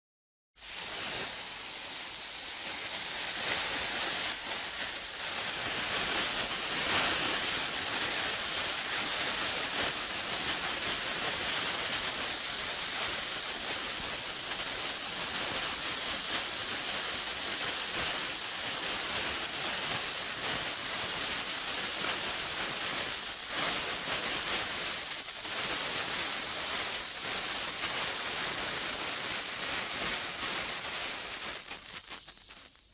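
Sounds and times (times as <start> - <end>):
burning fuse hissing and fizzing: 0.6 - 32.9.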